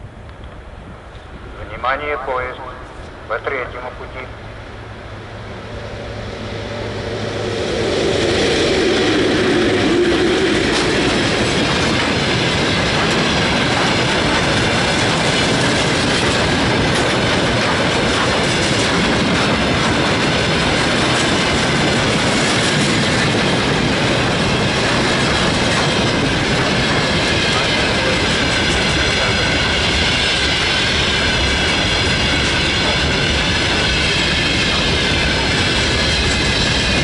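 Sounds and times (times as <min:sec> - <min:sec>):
freight train wheels clattering: 0:05.6 - 0:37.0.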